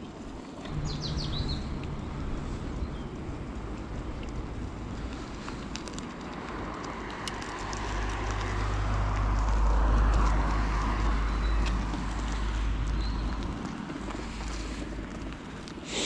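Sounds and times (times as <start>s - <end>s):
wind rumble on microphone: 0.0s - 15.9s
bike tyres rolling on a track: 0.0s - 16.0s.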